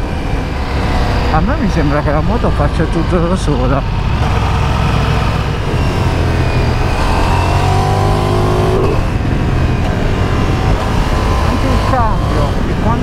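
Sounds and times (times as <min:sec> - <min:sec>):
wind rush on microphone: 0:00.0 - 0:13.0
motorcycle engine under load: 0:00.3 - 0:13.0.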